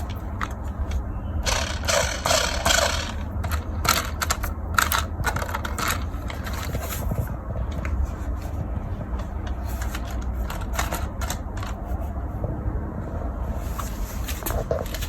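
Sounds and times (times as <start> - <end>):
plastic toys clicking and clattering: 0.0 - 12.0, 14.3 - 15.0
steady low rumble: 0.0 - 15.0.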